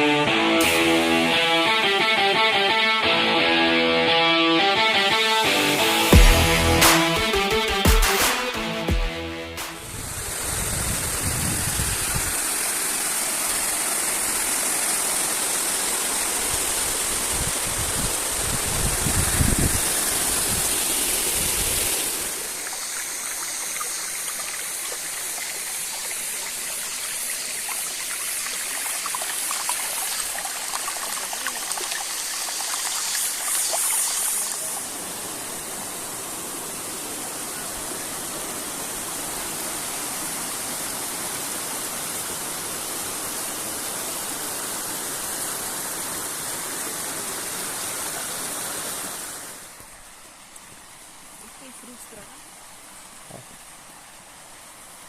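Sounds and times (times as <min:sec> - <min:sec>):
waterfall rushing: 0:00.0 - 0:50.4.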